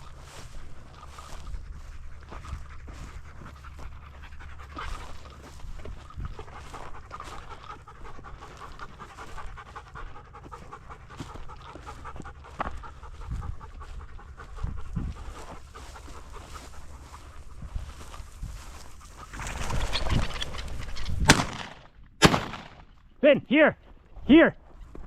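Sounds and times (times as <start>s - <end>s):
dog panting rapidly: 0.0s - 21.2s.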